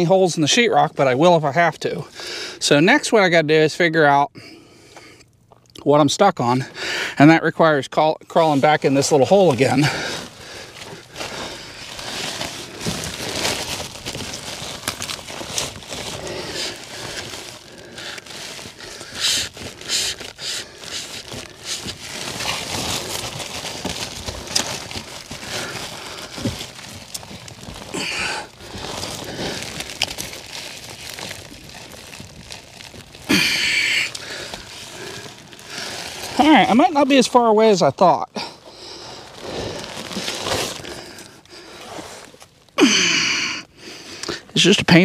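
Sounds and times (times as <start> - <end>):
rustling and crinkling: 8.3 - 45.0.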